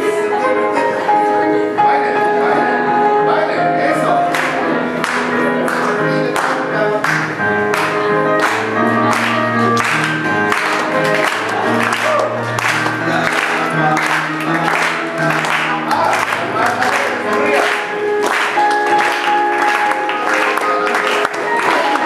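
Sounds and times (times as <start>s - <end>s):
crowd clapping along: 4.3s - 22.0s.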